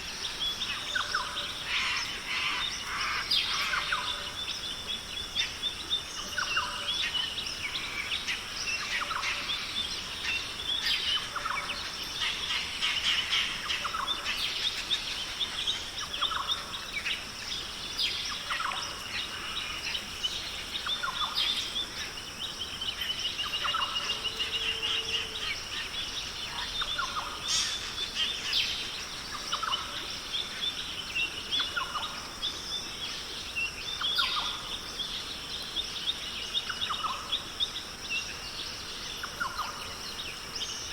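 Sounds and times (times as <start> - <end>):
birds chirping and calling: 0.0 - 40.9
high insect hum: 0.0 - 40.9.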